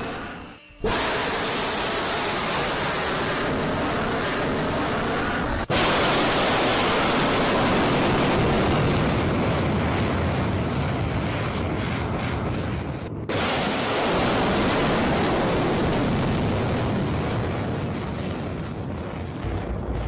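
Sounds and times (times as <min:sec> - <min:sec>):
missile launching roar: 0:00.0 - 0:20.0
rocket motor roaring: 0:00.0 - 0:20.0.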